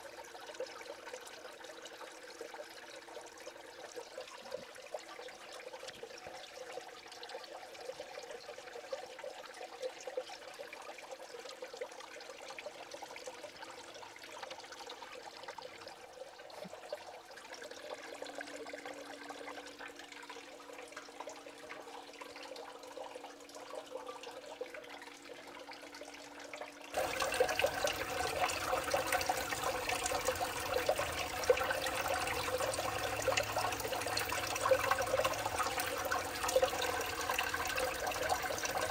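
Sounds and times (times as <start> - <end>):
faint pump hum: 0.0 - 38.9
water trickling and splashing: 0.0 - 38.9.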